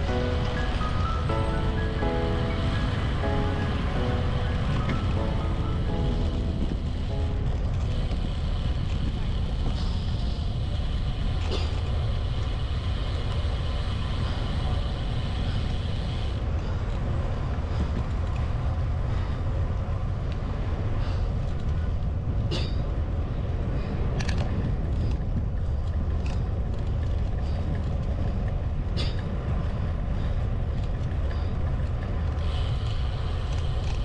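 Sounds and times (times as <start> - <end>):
bicycle road rumble: 0.0 - 34.0.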